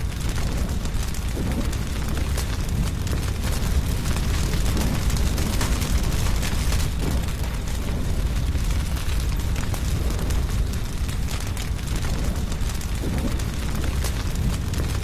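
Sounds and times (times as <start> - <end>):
burning wood crackling: 0.0 - 15.0
low rumble of flames: 0.0 - 15.0.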